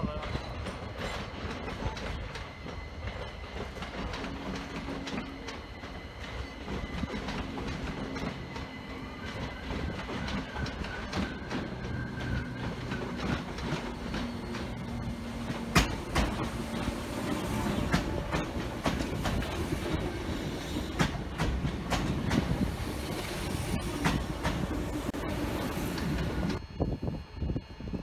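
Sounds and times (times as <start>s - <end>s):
high whine of train equipment: 0.0s - 28.0s
train low hum: 0.0s - 28.0s
wheels clicking over rail joints: 0.3s - 26.6s.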